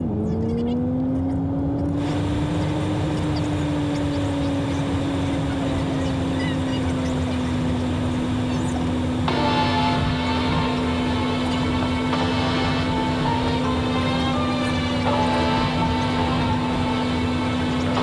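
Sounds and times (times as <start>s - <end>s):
car engine drone: 0.0s - 18.0s
road and tyre noise: 0.0s - 18.0s.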